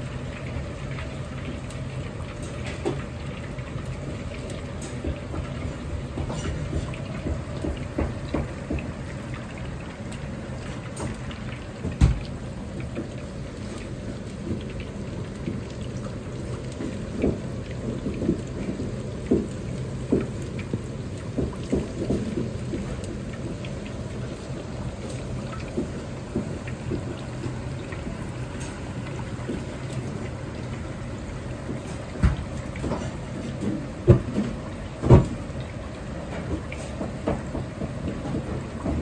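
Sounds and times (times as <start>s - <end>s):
chicken deep-frying in oil: 0.0s - 39.0s.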